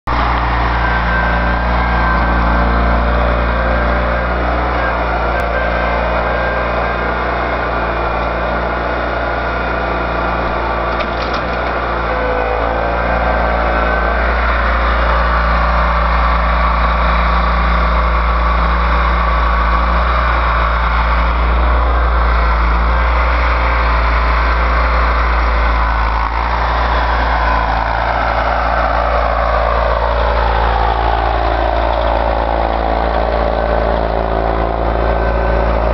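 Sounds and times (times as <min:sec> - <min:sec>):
vehicle engine rumbling: 0:00.0 - 0:35.9
falling whine: 0:00.1 - 0:35.9.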